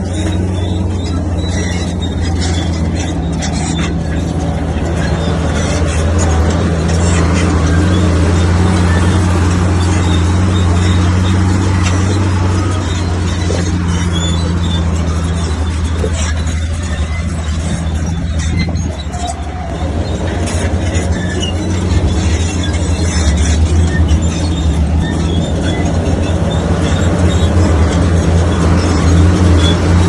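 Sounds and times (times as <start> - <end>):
heavy diesel machinery running: 0.0 - 30.0
metallic clanks and squeaks: 0.0 - 30.0.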